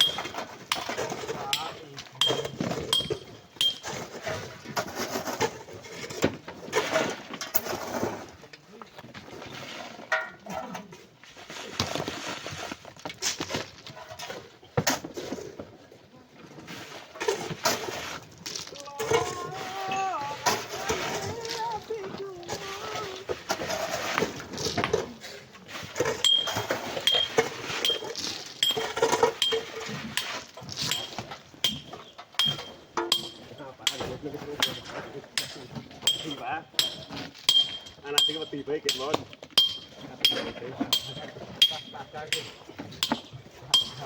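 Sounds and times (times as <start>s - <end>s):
hand tools knocking and scraping rock: 0.0s - 44.0s.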